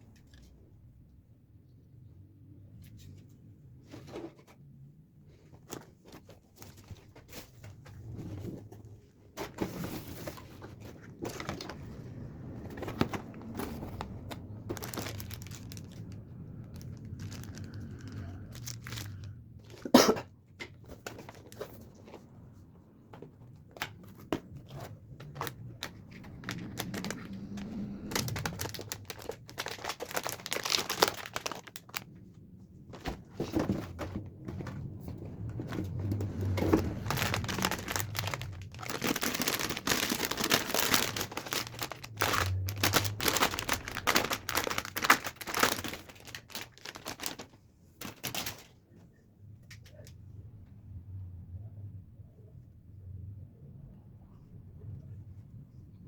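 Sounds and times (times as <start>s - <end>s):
crinkling and rustling: 0.0s - 0.7s, 2.8s - 50.2s.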